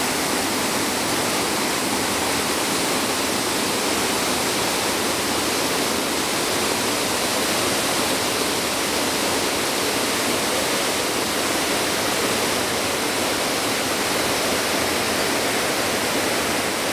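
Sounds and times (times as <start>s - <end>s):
stream rushing over rocks: 0.0s - 16.9s.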